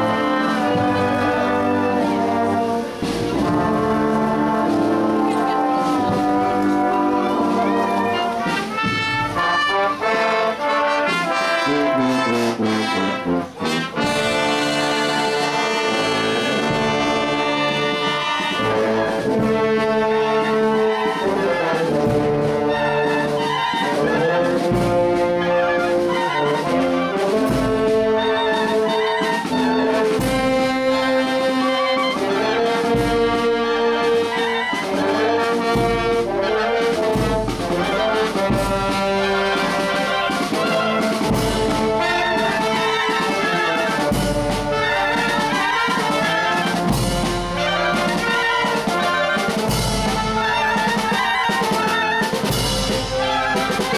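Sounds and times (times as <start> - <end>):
brass melody: 0.0 - 53.9
clarinets playing melody: 0.0 - 53.9
marching drums: 0.0 - 53.9.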